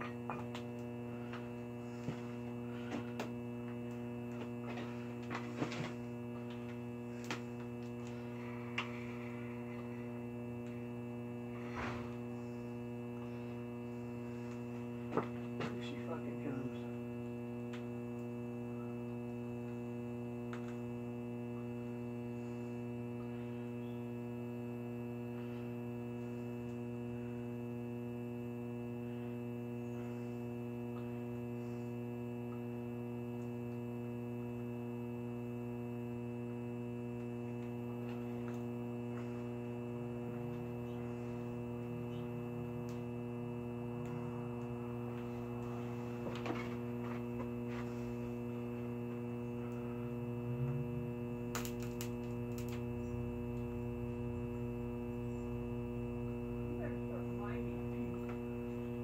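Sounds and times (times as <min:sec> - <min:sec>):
air-conditioner compressor humming: 0:00.0 - 0:59.0.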